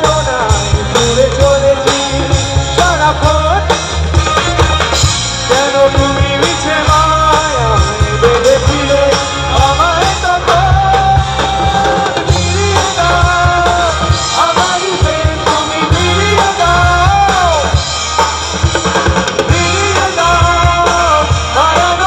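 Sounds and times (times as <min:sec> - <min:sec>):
drum kit beat: 0:00.0 - 0:22.0
live band music over pa: 0:00.0 - 0:22.0.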